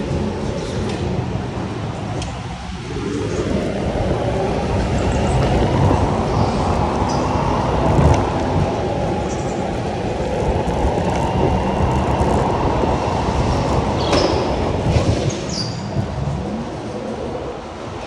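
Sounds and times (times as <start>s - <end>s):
go-kart rumbling at speed: 0.0s - 17.6s.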